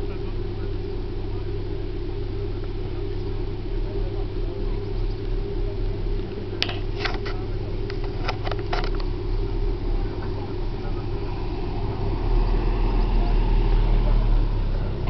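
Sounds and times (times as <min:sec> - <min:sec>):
car engine running at low speed: 0:00.0 - 0:15.0.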